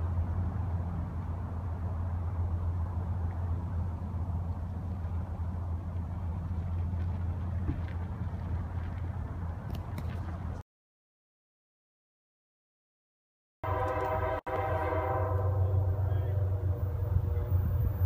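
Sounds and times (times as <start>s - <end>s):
distant locomotive diesel drone: 0.0s - 10.6s, 13.6s - 18.0s.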